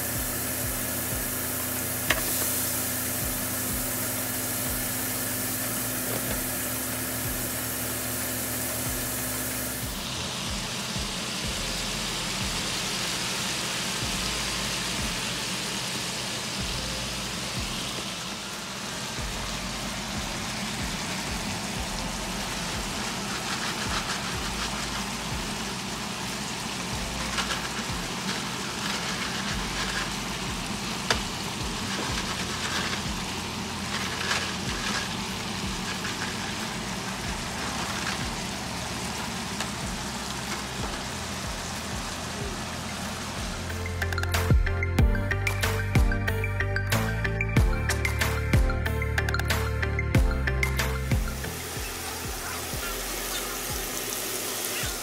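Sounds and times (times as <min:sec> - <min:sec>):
shrimp sizzling in hot oil: 0:00.0 - 0:44.5, 0:50.8 - 0:55.0
oil crackling and popping: 0:00.0 - 0:44.6, 0:50.7 - 0:55.0.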